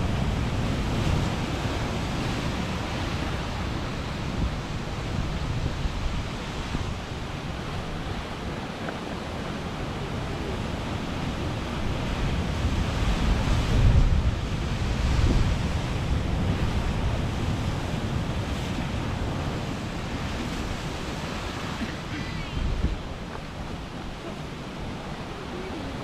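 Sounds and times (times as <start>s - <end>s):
ocean surf crashing on cliffs: 0.0s - 26.0s.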